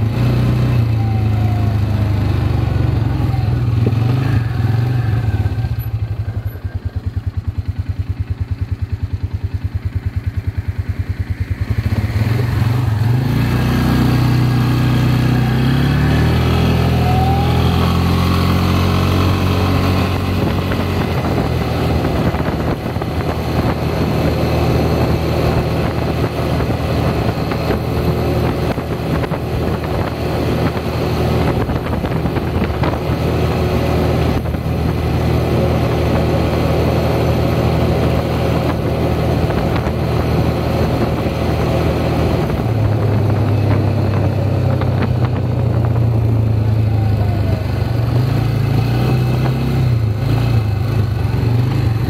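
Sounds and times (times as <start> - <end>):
atv engine pulling away: 0.0 - 52.0.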